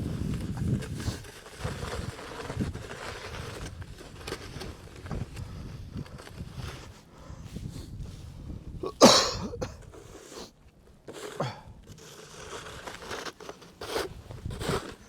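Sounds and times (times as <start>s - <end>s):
shovel scraping through snow: 0.0s - 8.0s, 9.7s - 15.0s.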